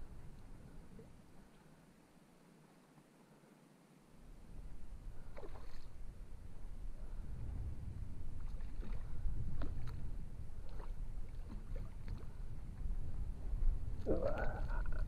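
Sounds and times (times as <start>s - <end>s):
wind rumble on microphone: 0.0s - 1.5s, 4.3s - 15.0s.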